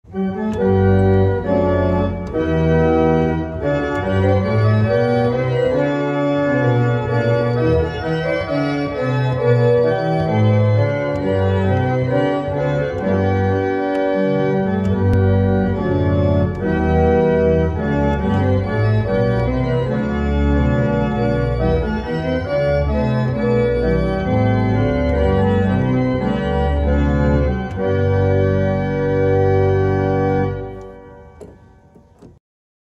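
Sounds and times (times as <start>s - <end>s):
pipe organ playing chords: 0.1s - 32.3s.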